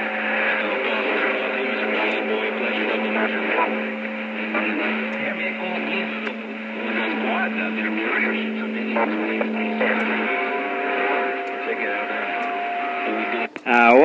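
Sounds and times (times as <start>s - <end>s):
garbled distorted radio audio: 0.0s - 14.0s
radio static: 0.0s - 14.0s
steady buzzing tone: 0.0s - 14.0s.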